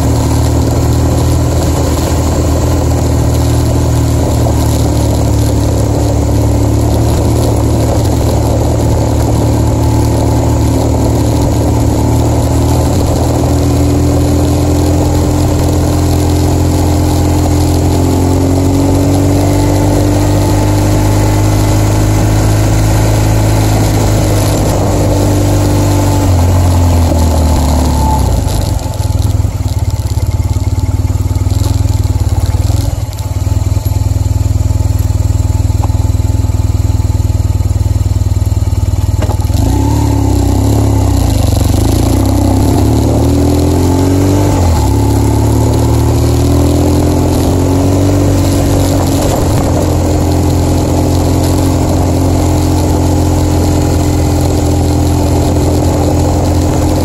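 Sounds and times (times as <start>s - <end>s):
wind noise: 0.0s - 36.2s, 39.0s - 57.0s
motorcycle engine running: 0.0s - 57.0s.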